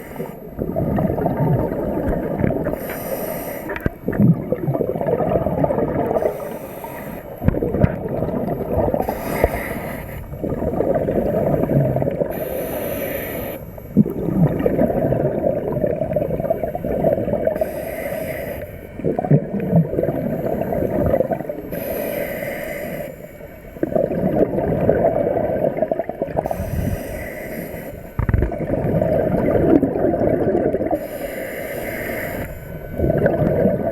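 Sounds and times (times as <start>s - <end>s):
regulator bubbling exhalation: 0.0s - 22.6s, 23.8s - 33.9s.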